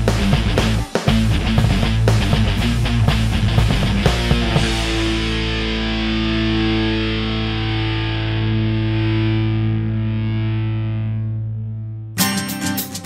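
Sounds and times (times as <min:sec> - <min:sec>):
distorted electric guitar chord: 0:00.0 - 0:12.1.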